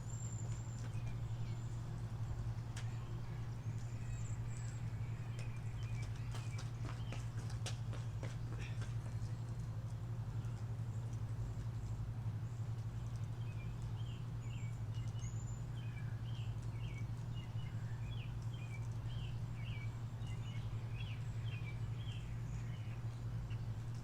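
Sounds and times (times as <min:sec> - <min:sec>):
songbirds chirping: 0:00.0 - 0:24.0
steady low hum: 0:00.0 - 0:24.0.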